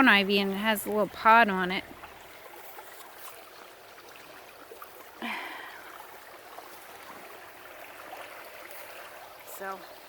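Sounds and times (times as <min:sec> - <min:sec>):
creek trickling over stones: 0:00.0 - 0:10.0.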